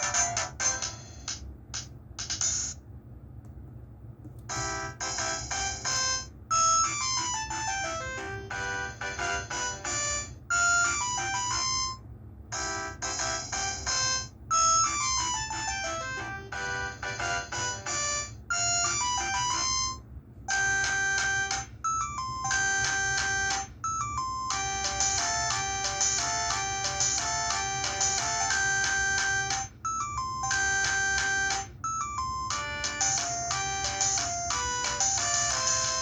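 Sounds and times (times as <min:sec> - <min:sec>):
polyphonic ringtone melody: 0:04.5 - 0:36.0.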